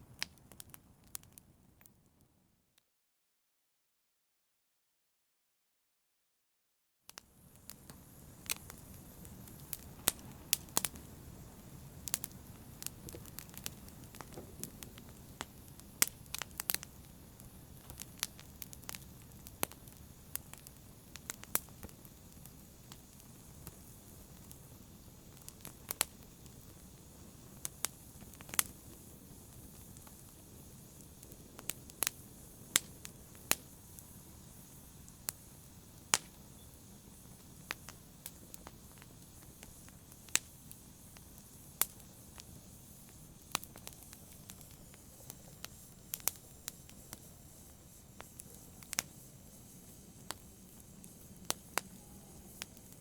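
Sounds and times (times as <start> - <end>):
fire crackling: 0.0 - 2.3, 7.2 - 53.0.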